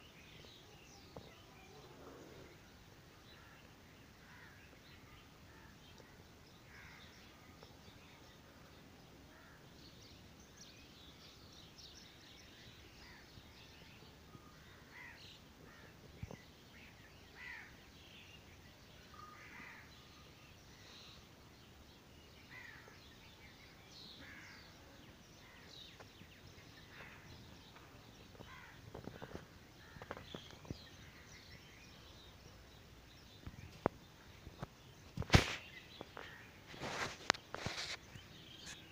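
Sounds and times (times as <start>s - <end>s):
background hiss: 0.0s - 38.9s
birds chirping: 0.0s - 38.9s.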